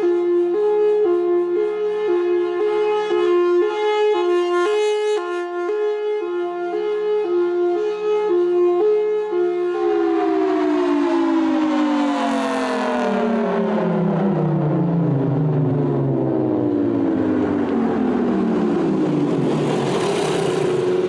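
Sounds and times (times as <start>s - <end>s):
two-tone siren: 0.0s - 21.0s.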